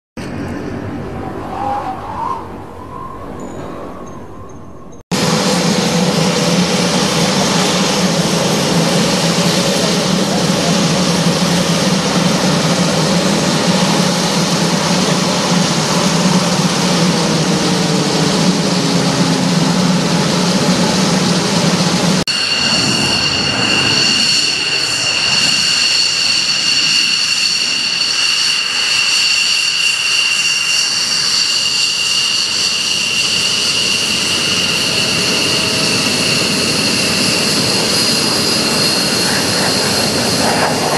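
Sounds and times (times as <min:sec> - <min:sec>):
jet engine whine: 0:00.2 - 0:40.9
turboprop engine droning: 0:00.2 - 0:40.9.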